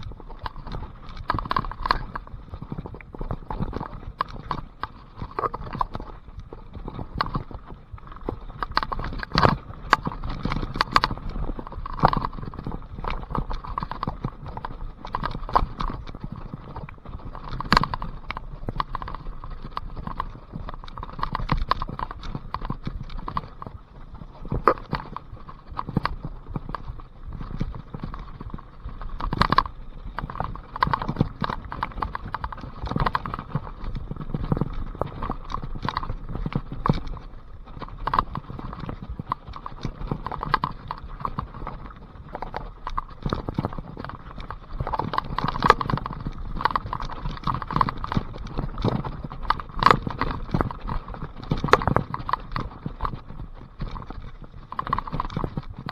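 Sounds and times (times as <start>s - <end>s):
bike frame knocks and clatters: 0.0s - 55.9s
tyres working through mud: 0.0s - 55.9s.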